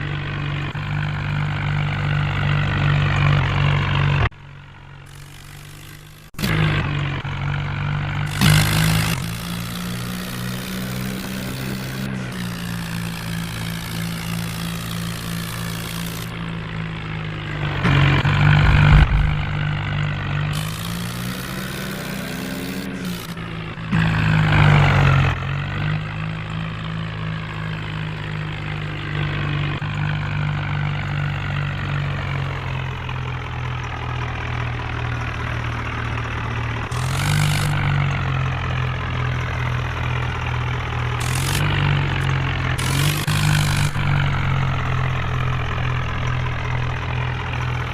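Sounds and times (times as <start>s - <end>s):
diesel engine revving: 0.0s - 4.4s, 5.0s - 47.9s.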